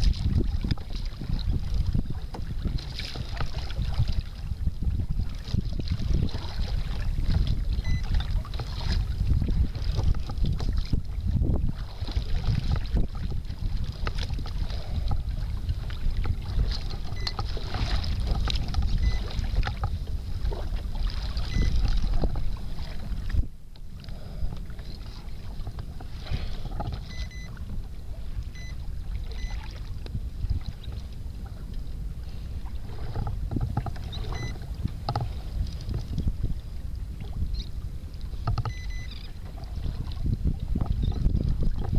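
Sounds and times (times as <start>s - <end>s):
waves slapping against kayak hull: 0.0s - 41.9s
wind buffeting microphone: 0.0s - 41.9s.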